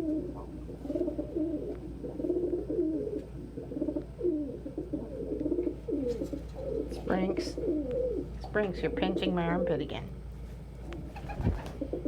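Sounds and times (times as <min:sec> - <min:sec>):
doves cooing: 0:00.0 - 0:10.2, 0:10.8 - 0:12.0.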